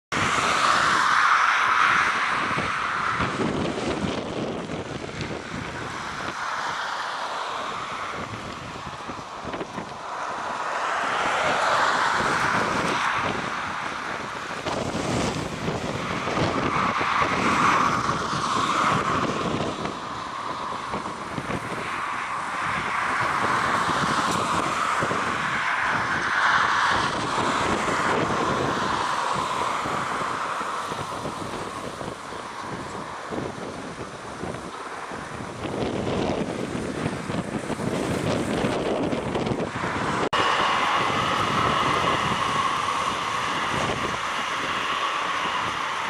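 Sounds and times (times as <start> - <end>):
gusty wind buffeting microphone: 0.1 - 46.0.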